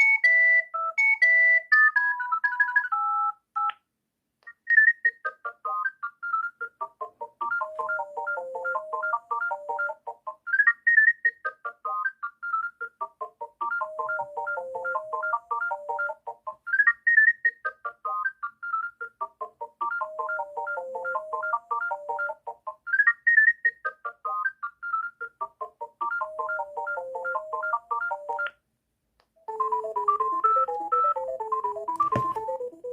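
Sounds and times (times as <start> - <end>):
mobile phone beeping ringtone: 0.0 - 3.8, 4.5 - 28.6, 29.4 - 32.9.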